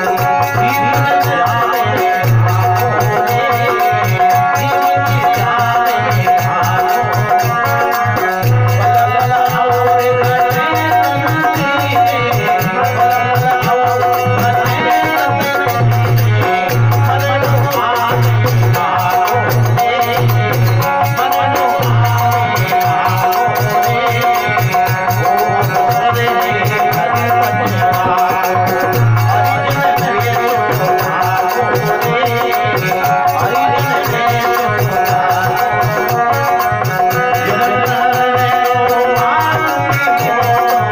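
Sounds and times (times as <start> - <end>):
dholak drum rhythm: 0.0 - 40.9
hand percussion rattling: 0.0 - 40.9
harmonium melody: 0.0 - 40.9.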